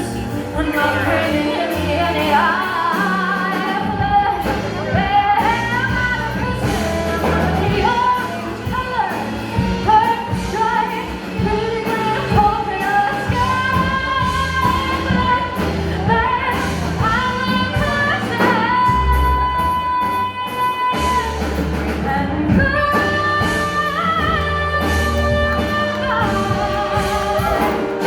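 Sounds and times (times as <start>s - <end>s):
person singing with live band: 0.0s - 28.0s.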